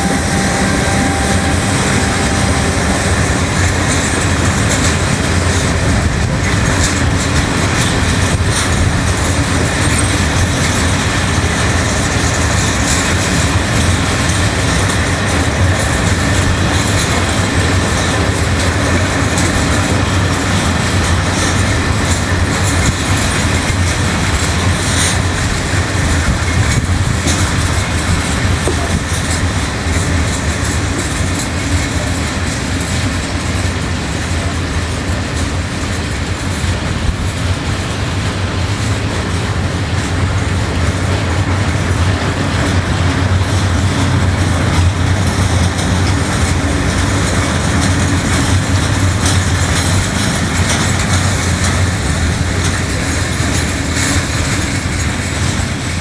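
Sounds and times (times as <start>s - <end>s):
freight train wheels rumbling on rails: 0.0s - 56.0s
wheels clicking over rail joints: 0.0s - 56.0s.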